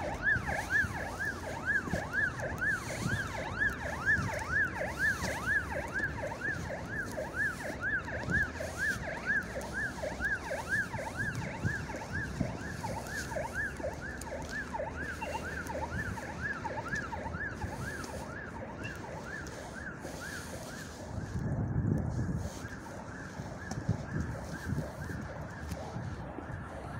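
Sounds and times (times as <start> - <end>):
footsteps on asphalt: 0.0 - 25.7
siren wailing: 0.0 - 26.9.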